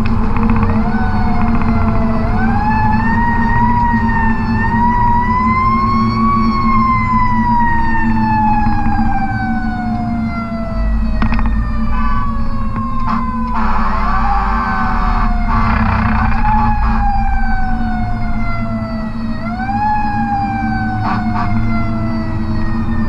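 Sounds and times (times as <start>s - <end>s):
diesel engine drone: 0.0s - 23.0s
fire truck siren winding: 0.0s - 23.0s
road noise: 0.0s - 23.0s.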